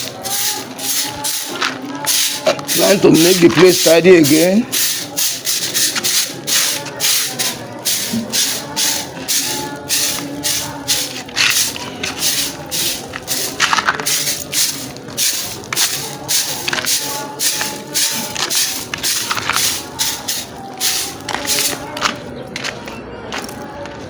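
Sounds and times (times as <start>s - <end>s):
broom sweeping floor: 0.0s - 21.8s.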